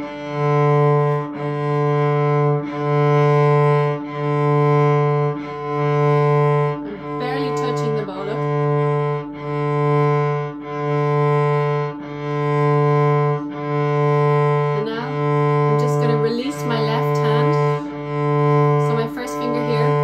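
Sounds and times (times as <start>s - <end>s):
cello note bowed: 0.0s - 20.0s.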